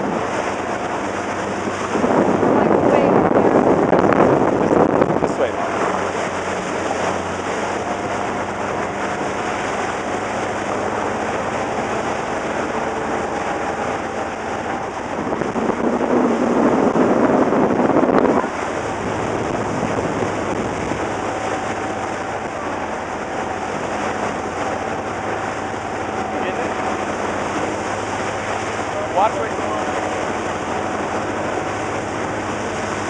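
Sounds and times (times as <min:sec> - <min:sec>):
boat wake splashing: 0:00.0 - 0:33.0
wind buffeting microphone: 0:00.0 - 0:33.0.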